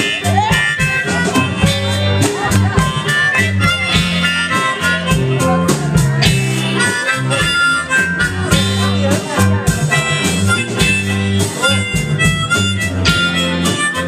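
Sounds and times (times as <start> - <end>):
bass guitar: 0.0 - 14.0
drums: 0.0 - 14.0
electric guitar: 0.0 - 14.0
harmonica lead: 0.0 - 14.0.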